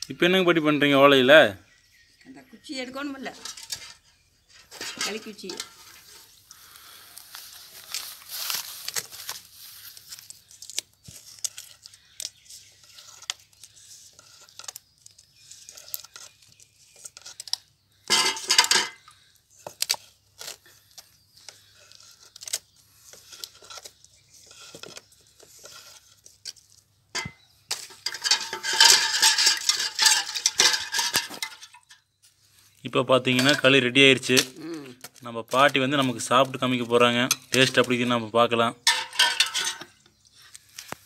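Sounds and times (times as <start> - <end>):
sticks scraping a metal pot: 3.0 - 41.0.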